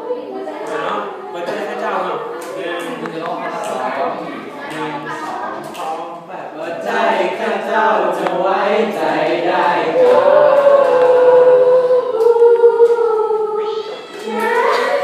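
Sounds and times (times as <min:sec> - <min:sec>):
choir singing in parts: 0:00.0 - 0:15.0.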